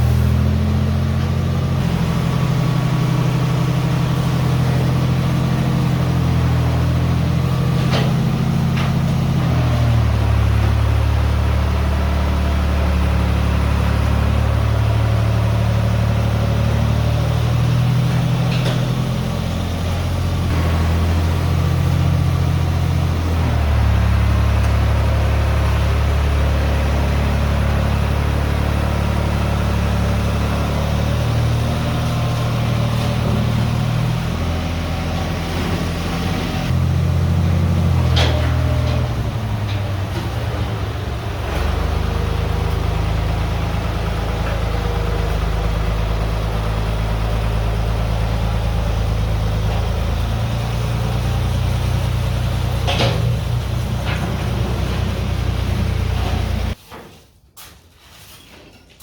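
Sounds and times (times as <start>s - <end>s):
engine running: 0.0s - 56.8s.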